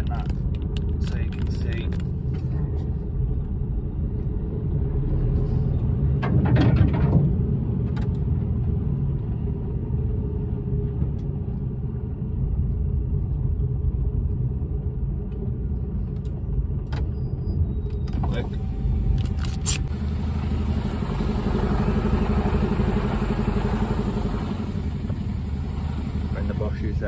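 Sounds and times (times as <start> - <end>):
diesel engine low rumble: 0.0 - 27.0.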